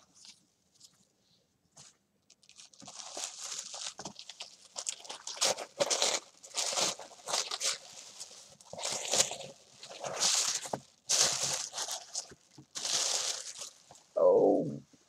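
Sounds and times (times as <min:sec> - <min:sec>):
tissue paper rustling and crinkling: 0:01.8 - 0:14.1.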